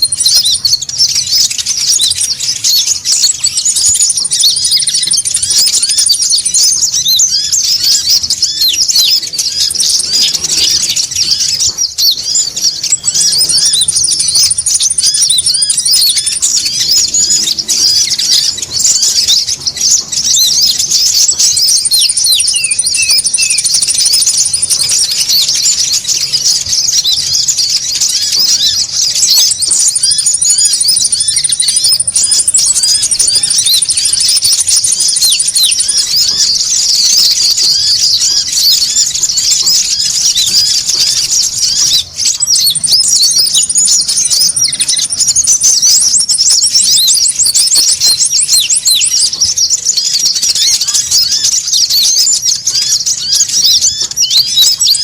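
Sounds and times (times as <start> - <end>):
sunbirds chirping: 0.0 - 55.0.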